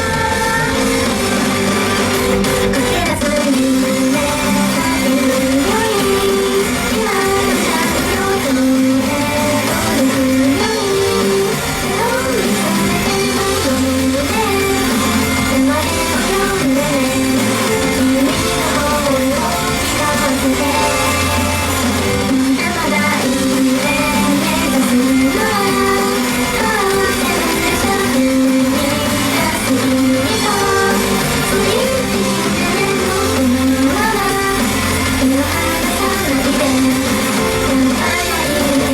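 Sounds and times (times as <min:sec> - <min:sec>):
female group singing pop song: 0:00.0 - 0:38.9
rock band track with electric guitar: 0:00.0 - 0:38.9.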